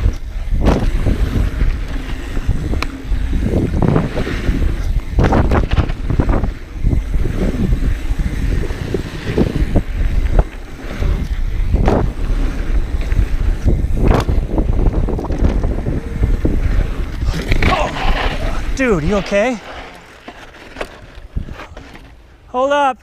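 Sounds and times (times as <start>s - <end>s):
bike rattling over bumps: 0.0s - 22.4s
wind buffeting microphone: 0.0s - 22.4s
bike tyres rolling over dirt: 0.0s - 22.6s.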